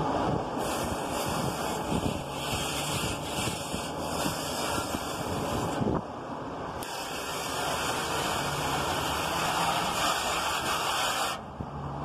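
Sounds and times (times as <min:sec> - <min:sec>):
hose water spraying on metal: 0:00.6 - 0:05.9, 0:06.8 - 0:11.5.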